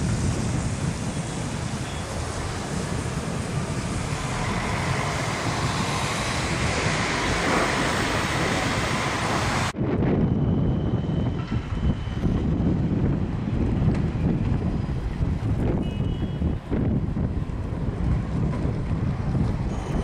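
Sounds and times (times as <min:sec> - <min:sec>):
electric tram pulling away: 0:00.0 - 0:15.8, 0:16.5 - 0:20.0
city traffic noise: 0:00.0 - 0:20.0.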